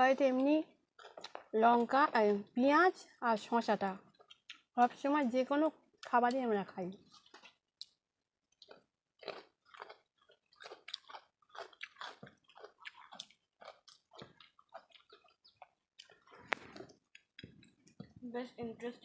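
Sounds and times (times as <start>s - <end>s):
people chewing food: 0.0s - 18.3s.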